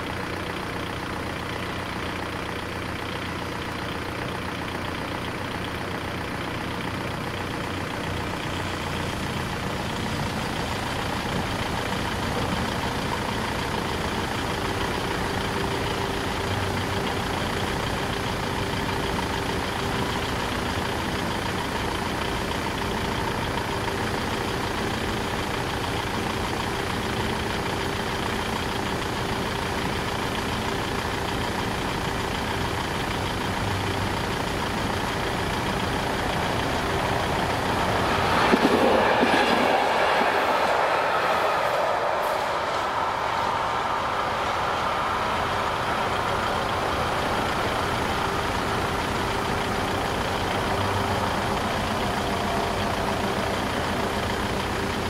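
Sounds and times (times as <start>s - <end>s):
car engines idling: 0.0s - 55.0s.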